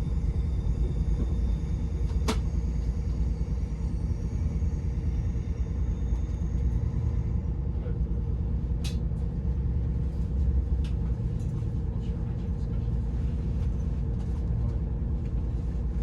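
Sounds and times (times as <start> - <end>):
diesel train interior rumble: 0.0 - 16.0.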